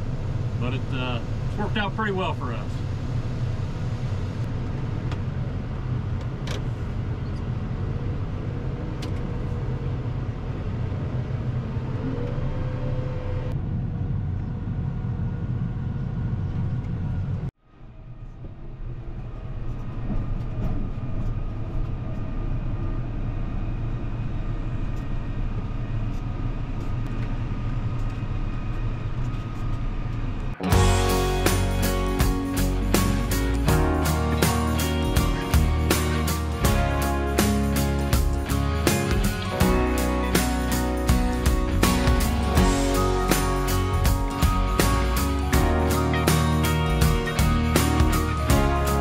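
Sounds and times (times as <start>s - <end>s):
tractor engine droning: 0.0s - 49.0s.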